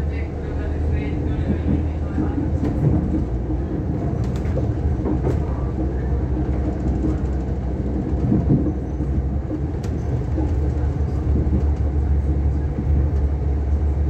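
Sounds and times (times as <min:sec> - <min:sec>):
diesel railcar rumble: 0:00.0 - 0:14.0.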